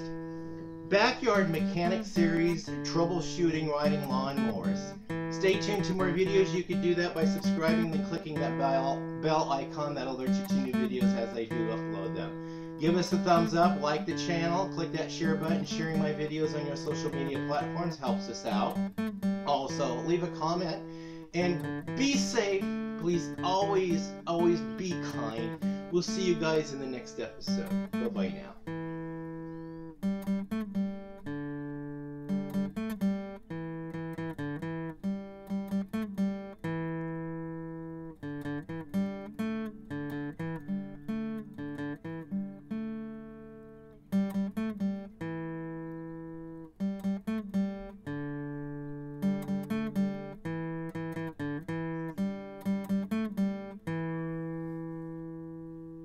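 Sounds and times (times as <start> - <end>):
solo acoustic guitar: 0.0 - 56.0.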